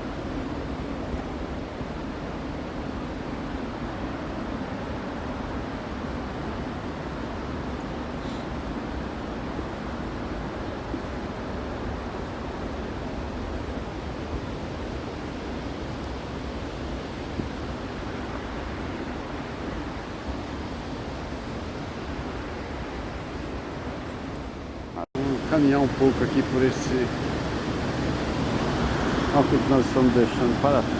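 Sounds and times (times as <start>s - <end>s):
car road and wind noise: 0.0s - 30.9s.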